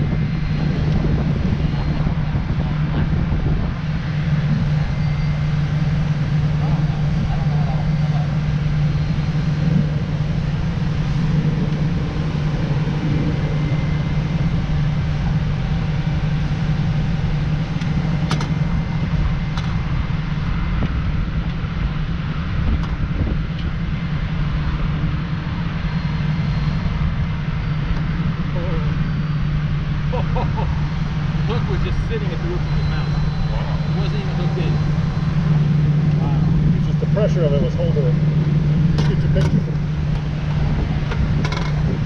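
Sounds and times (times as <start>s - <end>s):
heavy machinery drone: 0.0s - 42.0s.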